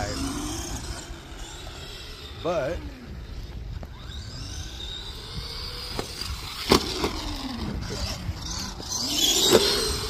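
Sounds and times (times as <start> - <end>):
toy truck electric motor whining: 0.0 - 10.0.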